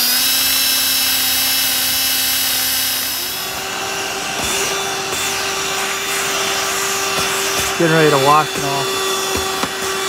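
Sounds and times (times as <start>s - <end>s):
cordless drill motor whine: 0.0s - 10.0s.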